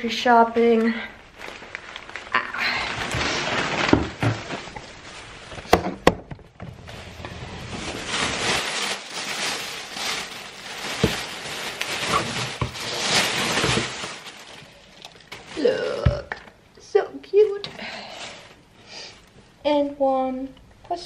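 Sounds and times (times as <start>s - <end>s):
plastic bags rustling and crinkling: 0.0s - 16.6s, 17.2s - 19.3s.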